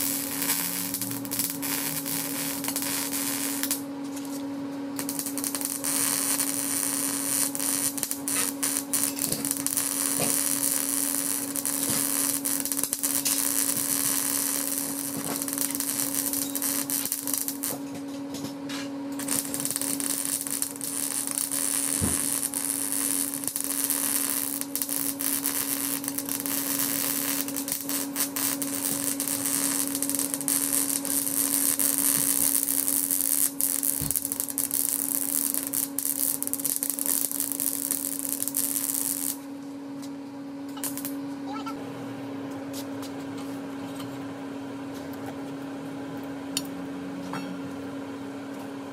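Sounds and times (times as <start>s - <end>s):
arc welding crackle: 0.0s - 41.6s
steady hum: 0.0s - 48.9s.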